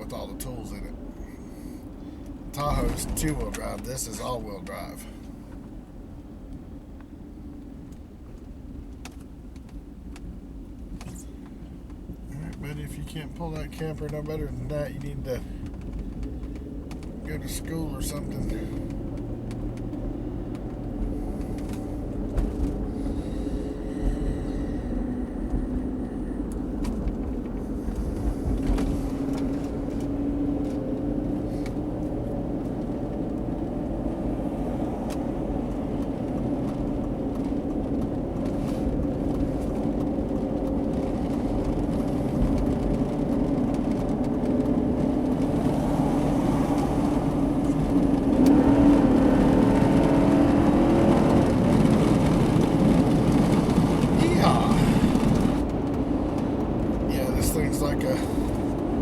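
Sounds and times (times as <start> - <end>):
truck engine drone: 0.0 - 6.1, 13.7 - 59.0
road noise: 0.0 - 59.0.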